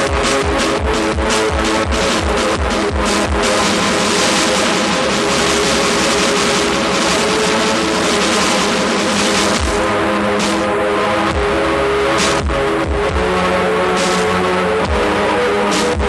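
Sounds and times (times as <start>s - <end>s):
distorted synth noise: 0.0s - 16.0s.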